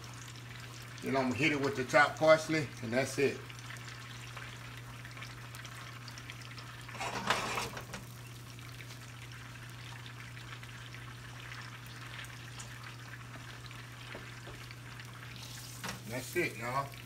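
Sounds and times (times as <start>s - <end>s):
sauce boiling in a frying pan: 0.0s - 17.0s.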